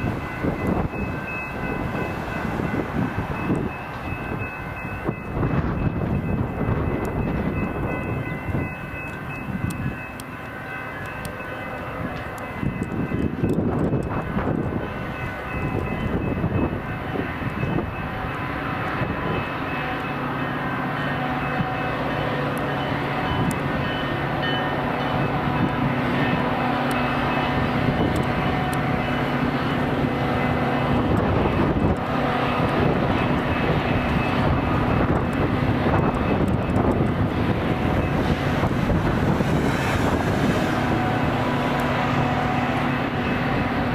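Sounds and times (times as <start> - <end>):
train rumbling past: 0.0 - 43.9.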